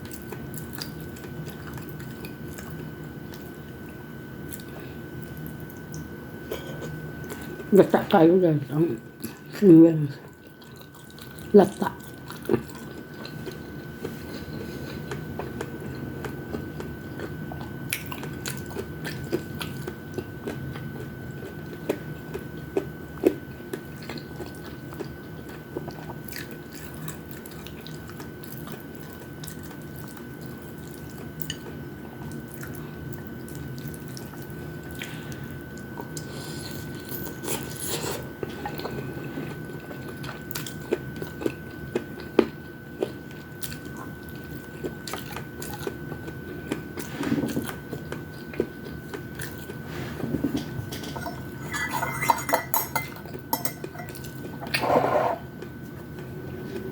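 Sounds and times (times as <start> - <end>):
chewing and biting food: 0.0 - 7.7, 10.2 - 51.7
steady low hum: 0.0 - 56.9.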